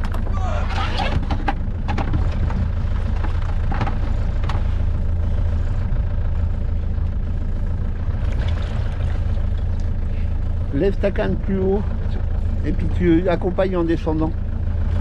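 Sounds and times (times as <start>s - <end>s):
motorboat engine idling: 0.0s - 15.0s.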